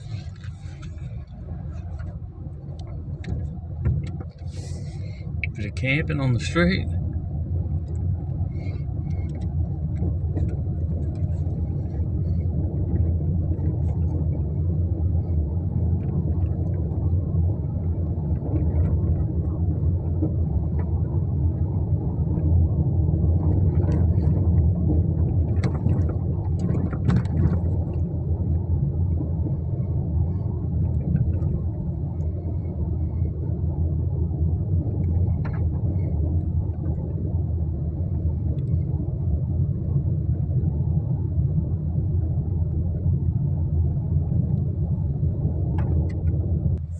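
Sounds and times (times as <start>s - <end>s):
car interior engine rumble: 0.0s - 46.9s.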